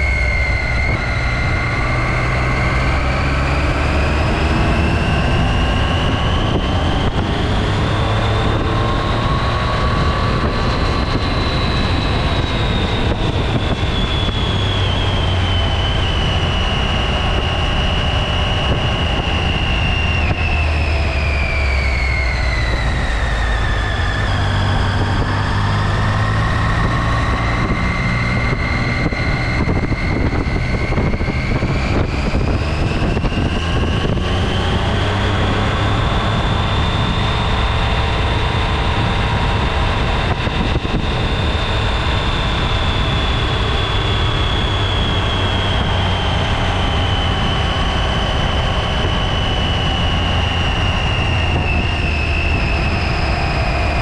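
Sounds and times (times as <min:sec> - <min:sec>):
rising whine: 0:00.0 - 0:54.0
wind rush on microphone: 0:00.0 - 0:54.0.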